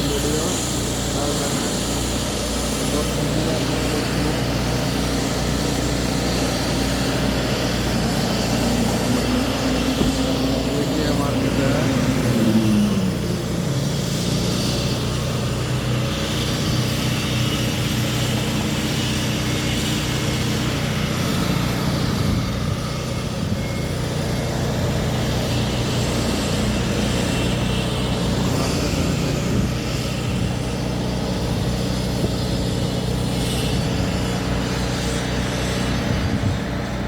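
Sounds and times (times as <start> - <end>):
traffic hum: 0.0 - 37.0
vehicle engine drone: 0.0 - 37.0.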